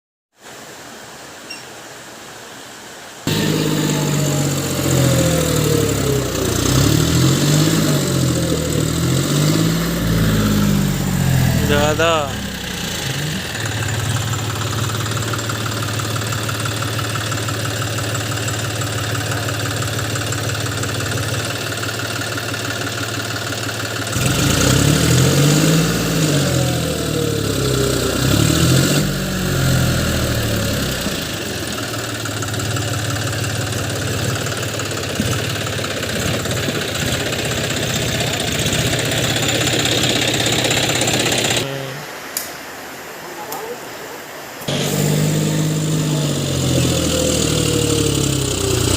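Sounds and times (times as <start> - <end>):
tractor diesel engine idling: 3.3 - 41.7, 44.7 - 48.9.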